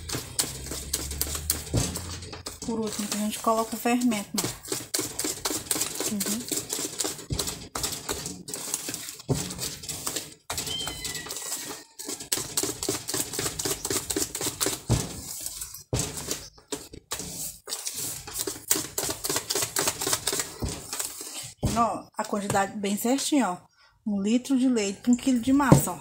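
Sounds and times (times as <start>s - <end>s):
hand whisk beating batter: 0.0s - 22.7s, 25.1s - 26.0s.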